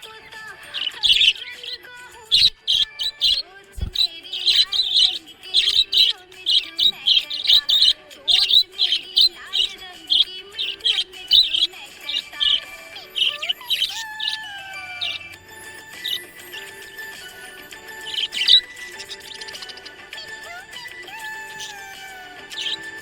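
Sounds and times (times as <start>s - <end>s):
background music: 0.0s - 23.0s
budgerigar chirping: 0.0s - 23.0s.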